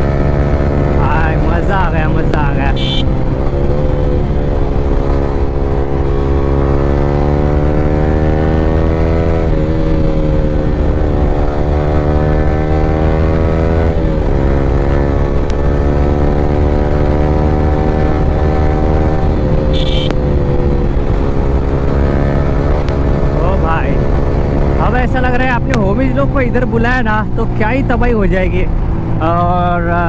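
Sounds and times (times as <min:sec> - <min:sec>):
motorcycle engine accelerating: 0:00.0 - 0:27.6.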